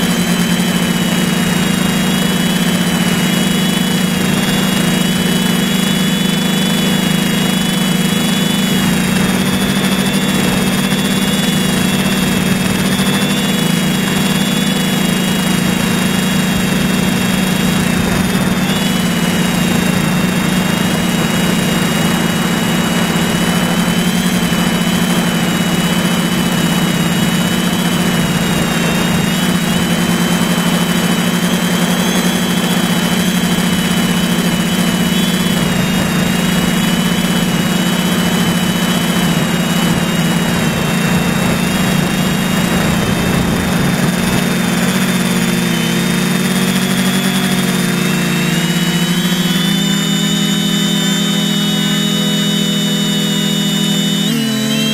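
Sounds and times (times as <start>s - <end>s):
drone motors humming: 0.0s - 54.9s.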